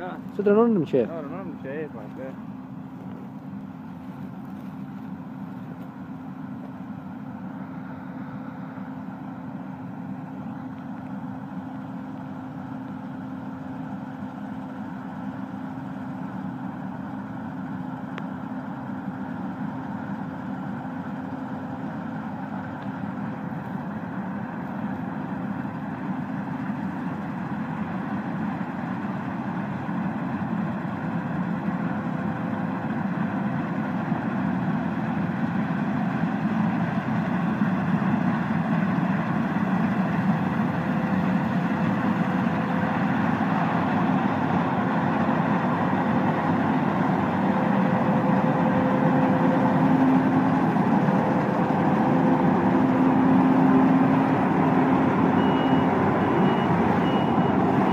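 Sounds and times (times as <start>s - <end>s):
combine harvester drone: 0.0s - 57.9s.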